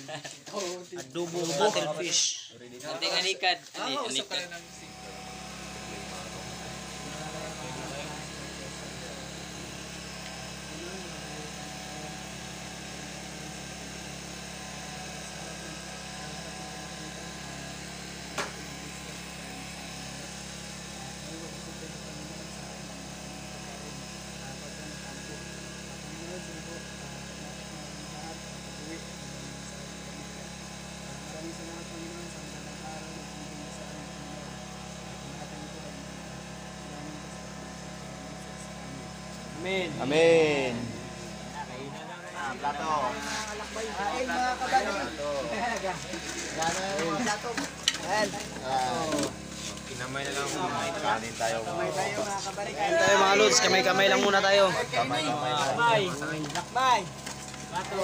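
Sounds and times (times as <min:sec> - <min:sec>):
steady motor drone: 0:00.0 - 0:58.0.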